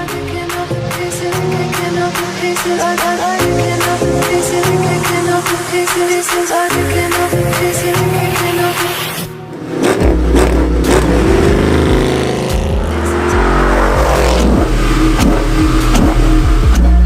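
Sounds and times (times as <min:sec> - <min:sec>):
car engine revving: 0:00.3 - 0:17.0.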